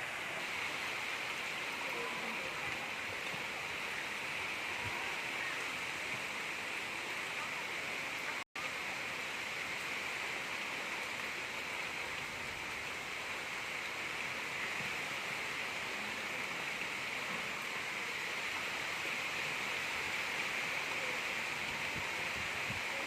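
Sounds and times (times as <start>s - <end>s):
gentle rain hiss: 0.0s - 23.0s.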